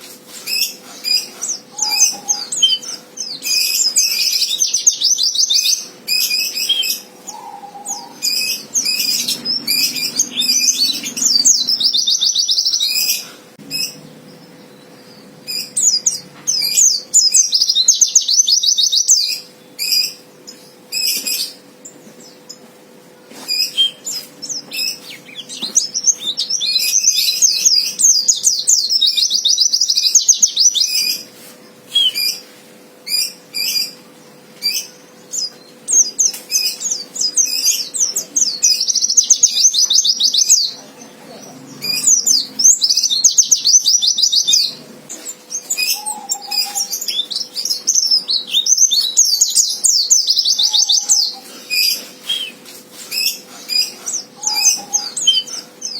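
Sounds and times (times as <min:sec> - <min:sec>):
bird chirps: 0:00.3 - 0:22.6, 0:23.3 - 0:31.3, 0:31.9 - 0:32.5, 0:34.6 - 0:55.9
bird chattering trills: 0:00.3 - 0:22.7, 0:23.3 - 0:32.5, 0:33.1 - 0:55.9.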